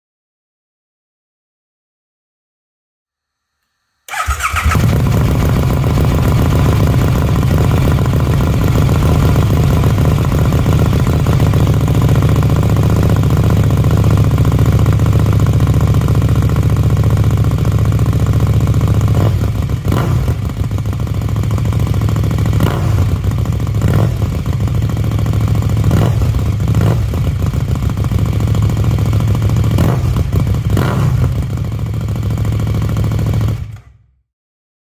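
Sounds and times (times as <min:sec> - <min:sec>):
motorcycle engine idling and revving: 0:04.1 - 0:34.2.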